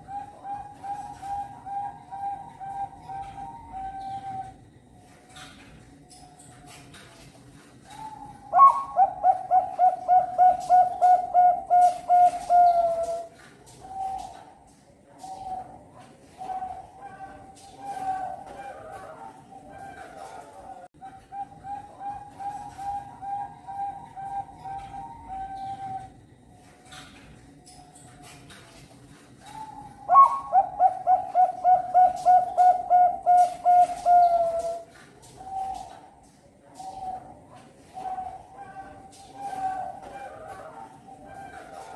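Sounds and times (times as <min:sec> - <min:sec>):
dove cooing: 0:00.0 - 0:04.7, 0:07.8 - 0:26.2, 0:29.4 - 0:41.9.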